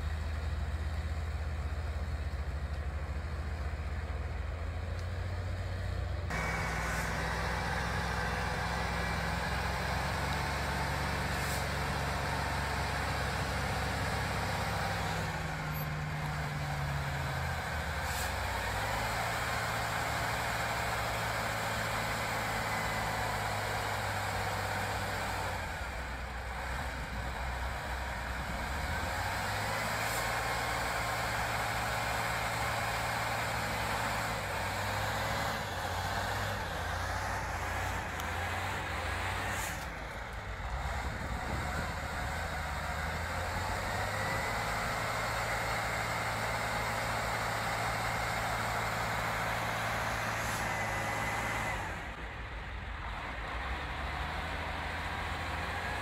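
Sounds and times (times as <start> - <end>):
heavy truck engine: 0.0 - 56.0.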